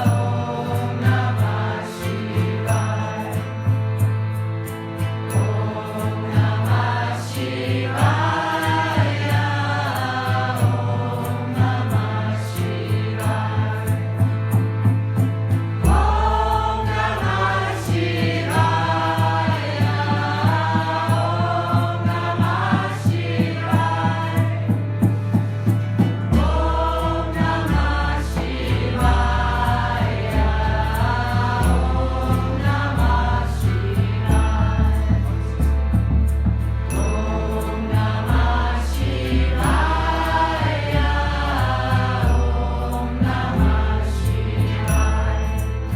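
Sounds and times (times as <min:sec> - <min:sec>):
group chanting a mantra: 0:00.0 - 0:03.4, 0:05.4 - 0:14.3, 0:15.8 - 0:24.8, 0:26.3 - 0:35.4, 0:37.0 - 0:45.9
steady drum beat: 0:00.0 - 0:04.3, 0:05.3 - 0:45.9.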